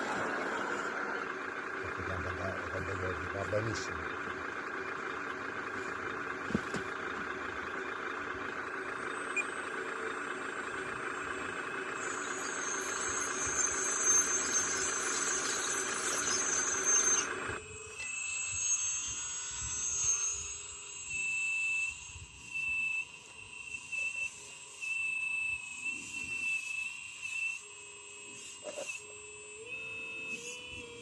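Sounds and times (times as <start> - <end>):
diesel machine engine droning: 0.0 - 31.0
high whine: 0.0 - 31.0.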